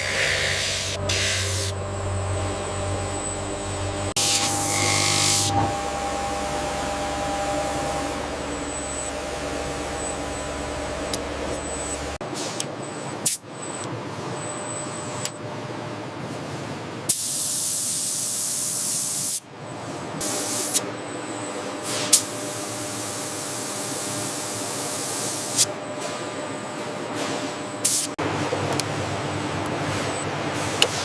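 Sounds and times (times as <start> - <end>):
steady mechanical background noise: 0.0 - 31.0.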